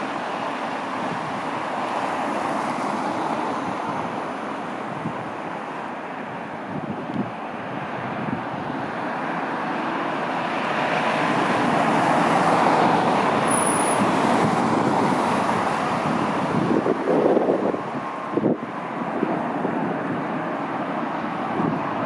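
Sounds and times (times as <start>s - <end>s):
wind buffeting microphone: 0.6s - 22.0s.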